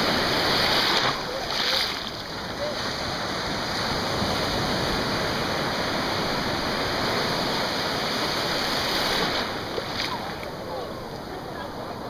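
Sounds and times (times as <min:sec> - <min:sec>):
waves breaking in shallows: 0:00.0 - 0:12.0.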